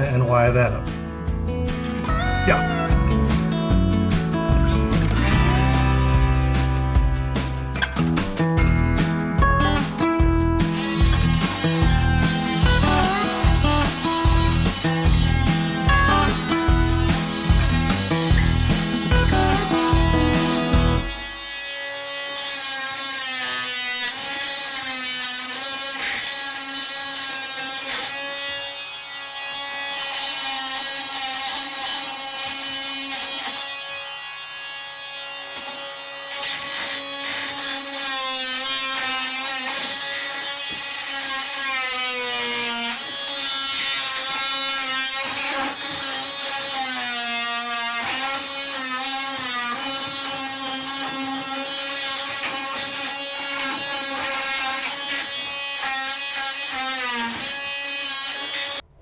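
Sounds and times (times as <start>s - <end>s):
electric power tool motor: 0.8s - 8.3s, 9.8s - 59.0s.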